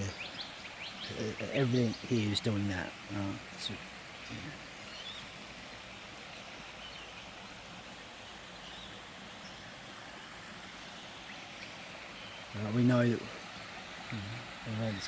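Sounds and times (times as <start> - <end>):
creek flowing: 0.0 - 15.0.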